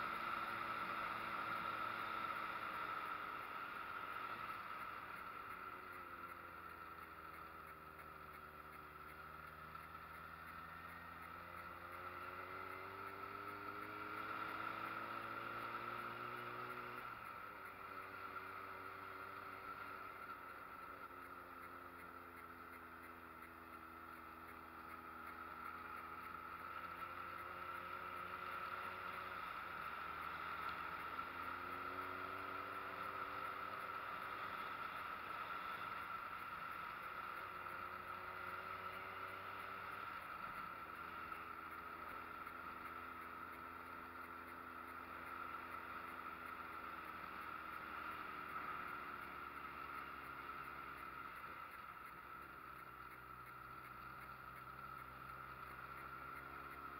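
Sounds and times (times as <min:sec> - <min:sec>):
motorcycle engine revving: 0:00.0 - 0:56.9
wind and road noise: 0:00.0 - 0:56.9.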